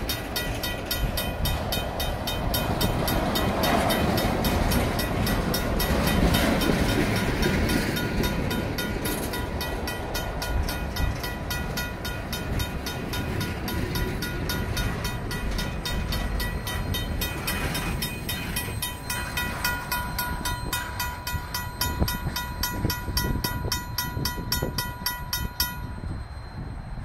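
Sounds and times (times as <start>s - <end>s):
crossing bell ringing: 0.0s - 27.0s
freight cars rumbling on rails: 0.0s - 27.0s.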